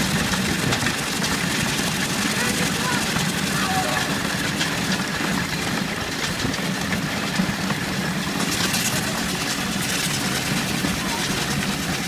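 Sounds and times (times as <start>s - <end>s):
steam traction engine running: 0.0s - 12.0s.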